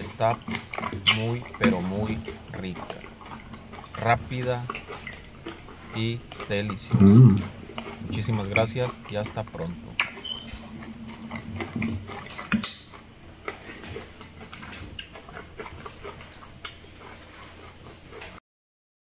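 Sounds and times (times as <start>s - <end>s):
close-up chewing: 0.0s - 18.4s
wet mouth clicks and smacks: 0.0s - 18.4s.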